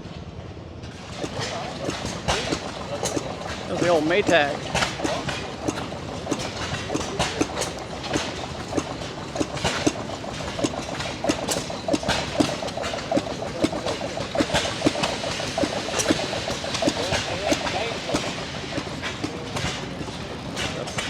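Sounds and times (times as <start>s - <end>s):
small gas engines clattering: 0.1s - 21.0s
sharp exhaust pops: 1.1s - 21.0s.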